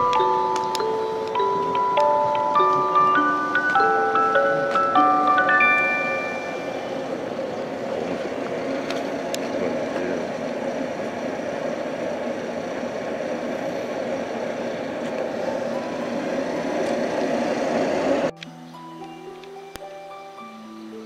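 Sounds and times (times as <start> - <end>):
electric train running noise: 0.0 - 21.0.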